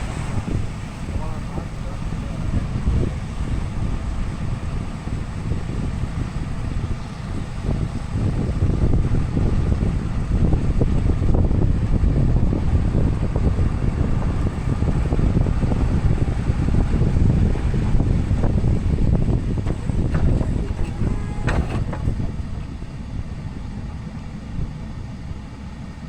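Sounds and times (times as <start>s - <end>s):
truck engine rumble: 0.0s - 26.0s
wind buffeting microphone: 0.0s - 26.0s.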